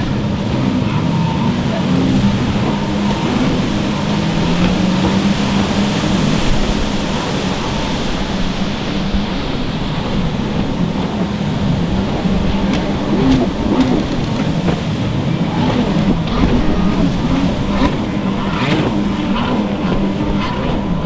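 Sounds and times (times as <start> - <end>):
jet ski engines racing: 0.0 - 21.0
rush of spray and wind: 0.0 - 21.0.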